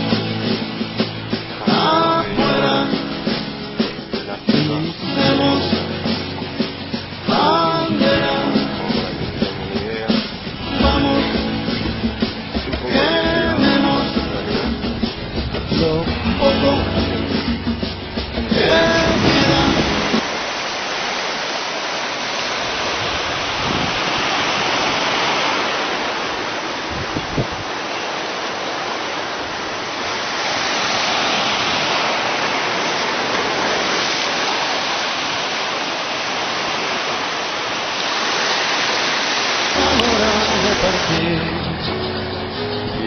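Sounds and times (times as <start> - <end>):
river rapids rushing: 0.0 - 43.0.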